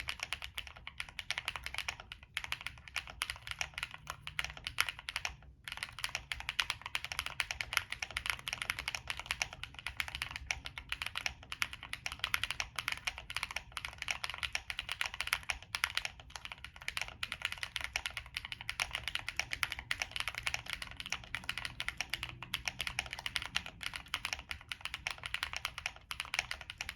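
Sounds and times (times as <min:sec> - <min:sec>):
mechanical keyboard typing: 0:00.0 - 0:26.9.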